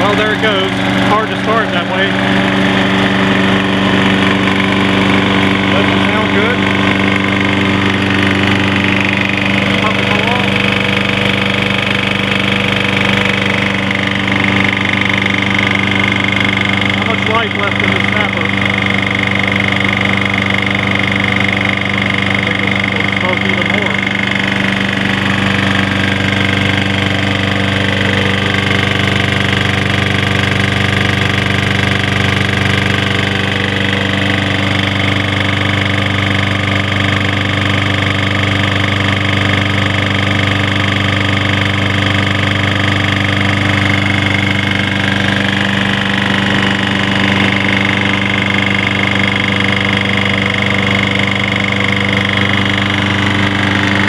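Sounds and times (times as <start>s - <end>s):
engine knocking: 0.0s - 54.0s
lawn mower engine running: 0.0s - 54.0s.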